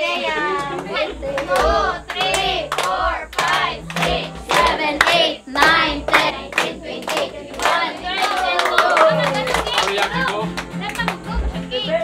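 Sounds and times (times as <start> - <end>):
strummed acoustic guitar: 0.0 - 8.2, 9.0 - 12.0
people singing together: 0.0 - 10.5
hands clapping: 0.6 - 11.5.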